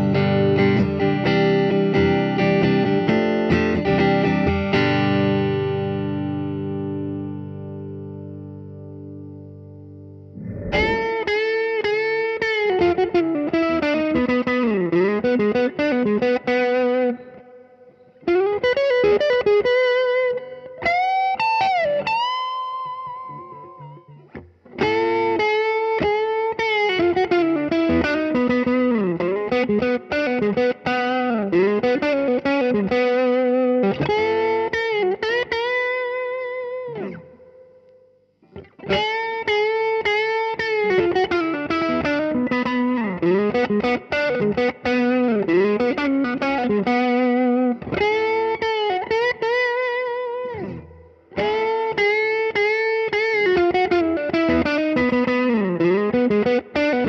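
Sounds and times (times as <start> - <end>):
overdriven electric guitar solo: 0.0 - 57.0.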